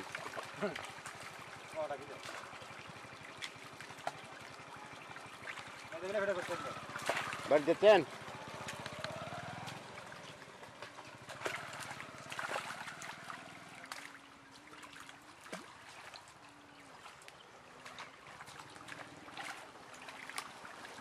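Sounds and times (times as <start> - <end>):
fish thrashing and splashing: 0.0 - 21.0.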